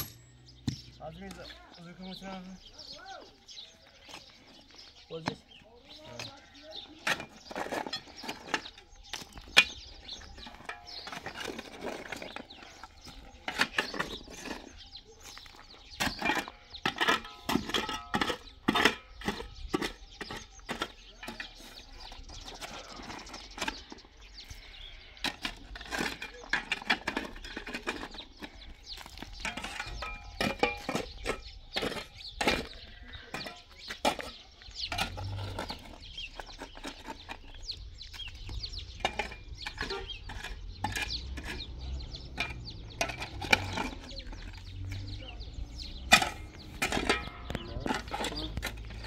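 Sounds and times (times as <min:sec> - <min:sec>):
shovel scraping and striking stones: 0:04.0 - 0:49.0.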